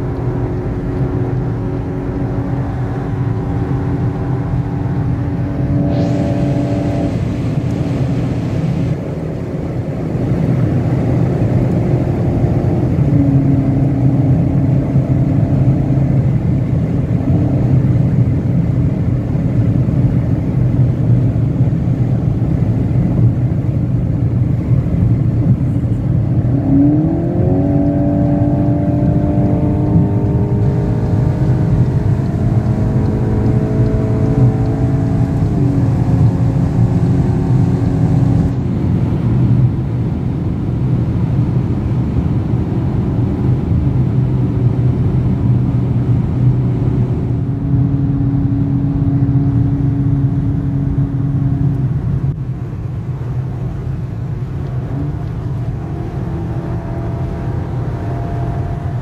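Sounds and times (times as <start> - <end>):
car engine from inside cabin: 0.0 - 59.0
road and wind noise: 0.0 - 59.0.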